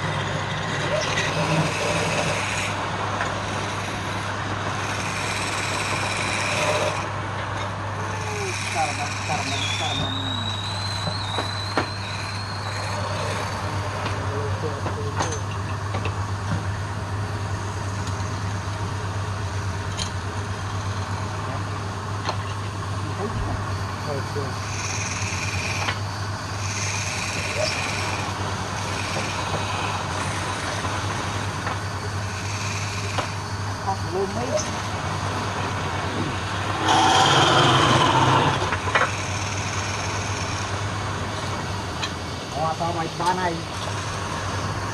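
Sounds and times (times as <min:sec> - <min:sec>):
motor humming and whirring: 0:00.0 - 0:44.9
tool cutting spinning wood: 0:00.0 - 0:44.9.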